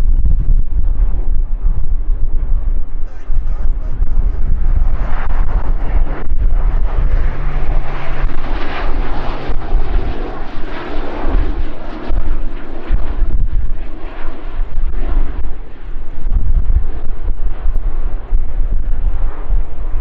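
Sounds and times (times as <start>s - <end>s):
turboprop aircraft flying past: 0.0s - 20.0s
wind rumble on microphone: 0.0s - 20.0s.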